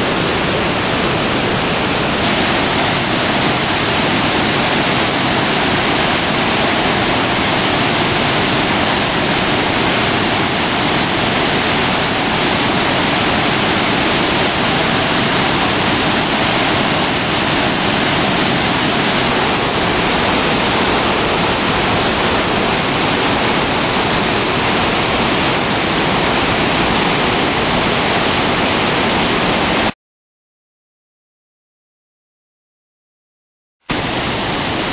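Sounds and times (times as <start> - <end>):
white water rushing: 0.0 - 29.9, 33.9 - 34.9.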